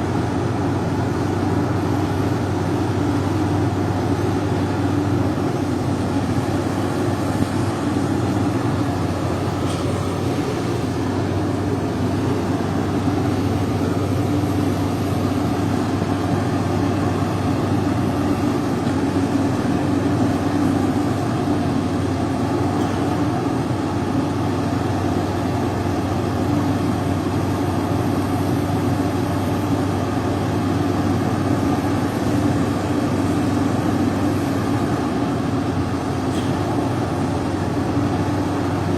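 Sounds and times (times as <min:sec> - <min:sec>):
heavy machinery engine droning: 0:00.0 - 0:38.9.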